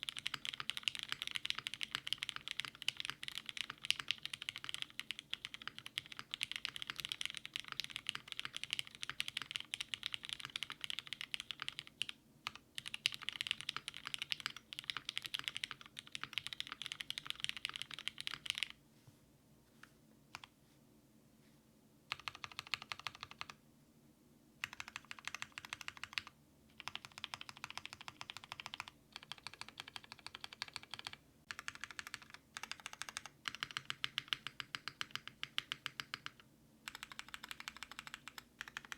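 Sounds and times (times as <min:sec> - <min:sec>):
typing on mechanical keyboard: 0:00.0 - 0:18.8, 0:20.3 - 0:20.5, 0:22.1 - 0:23.6, 0:24.6 - 0:38.9.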